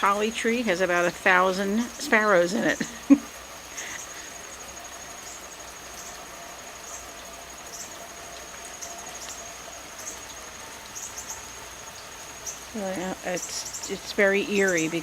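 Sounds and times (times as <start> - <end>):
insect trill: 0.0 - 15.0
sparrows chirping: 0.0 - 15.0.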